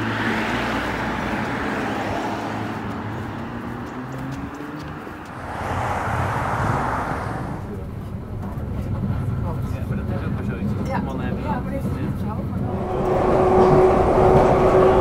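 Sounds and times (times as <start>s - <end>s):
cars passing: 0.0s - 10.7s, 12.0s - 15.0s.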